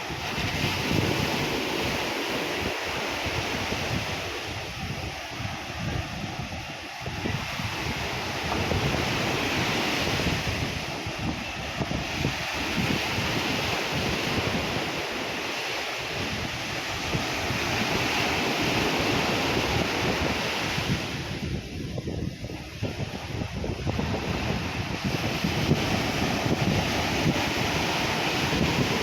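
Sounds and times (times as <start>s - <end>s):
surf breaking ashore: 0.0s - 29.0s
wind buffeting microphone: 0.0s - 29.0s.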